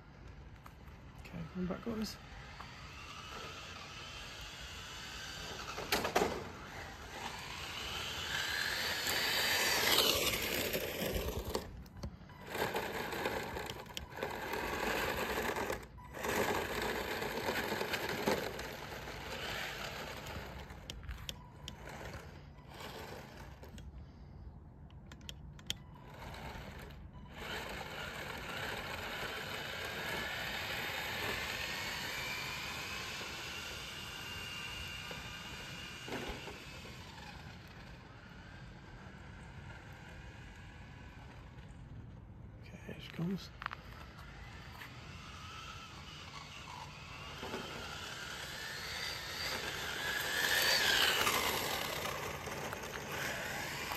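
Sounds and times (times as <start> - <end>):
toy car electric motor whining: 0.0 - 42.3, 42.9 - 53.9.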